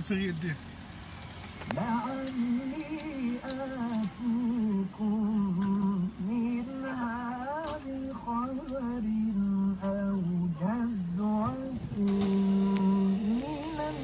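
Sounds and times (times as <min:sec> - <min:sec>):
man chanting on car radio: 0:00.0 - 0:00.6, 0:01.7 - 0:14.0.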